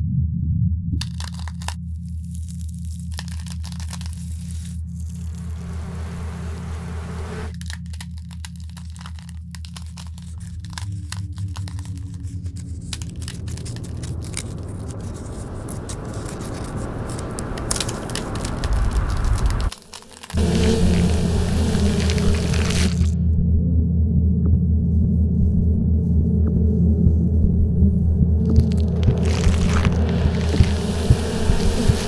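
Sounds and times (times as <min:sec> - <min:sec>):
low pulsing drone: 0:00.0 - 0:01.0, 0:04.1 - 0:19.7, 0:20.4 - 0:32.0
crackling and tearing effects: 0:01.0 - 0:23.2, 0:28.4 - 0:32.0.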